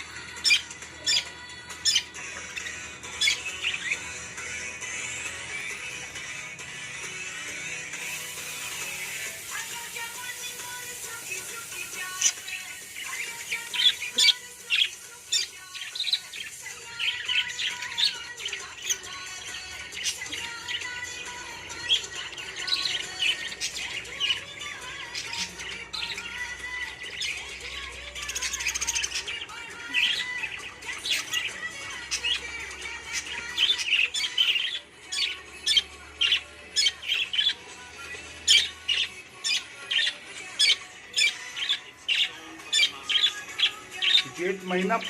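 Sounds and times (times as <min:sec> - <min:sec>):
budgie chirping and squawking: 0:00.0 - 0:45.0.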